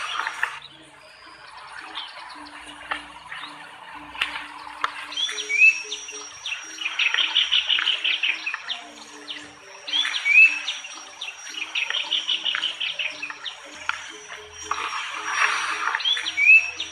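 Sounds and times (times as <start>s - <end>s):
bird song with whistles and trill: 0.0s - 16.9s.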